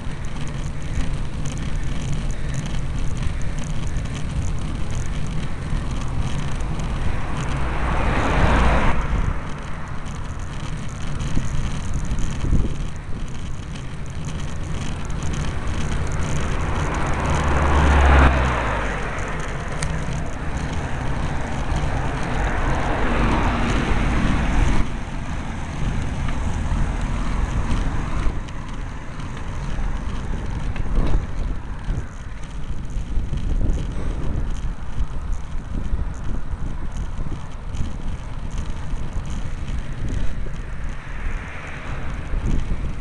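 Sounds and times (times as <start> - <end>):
low rumble of road noise: 0.0 - 43.0
wind rushing over microphone: 0.0 - 43.0.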